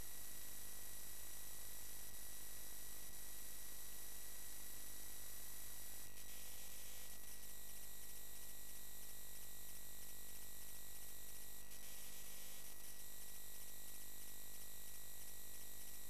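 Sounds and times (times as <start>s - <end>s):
electrical hum and buzz: 0.8s - 16.0s.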